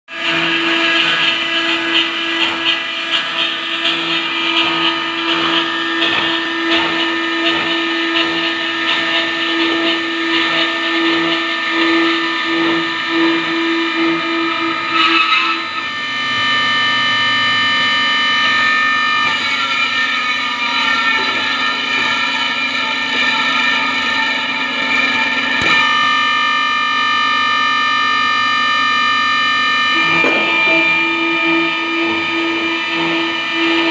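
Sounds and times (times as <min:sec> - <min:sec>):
circular saw cutting steel: 0:00.1 - 0:33.9.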